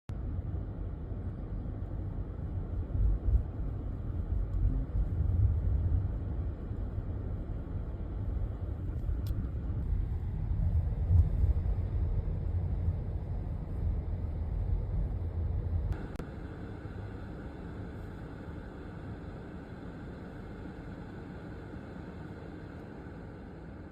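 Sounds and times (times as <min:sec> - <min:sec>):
car engine and road noise: 0:00.1 - 0:23.9.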